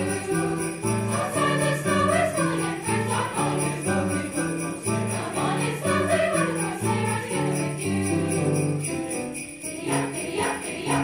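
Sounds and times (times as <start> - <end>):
choir singing held notes: 0.0 - 11.0
sleigh bells shaken: 0.0 - 11.0.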